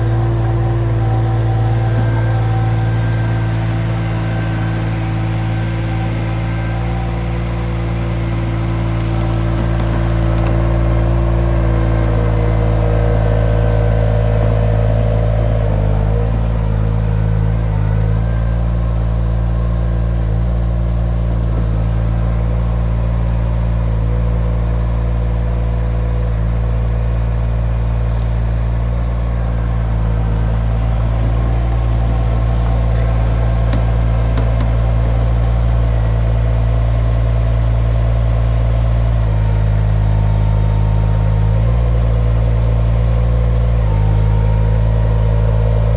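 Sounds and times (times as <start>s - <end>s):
engine running at high revs: 0.0s - 45.9s.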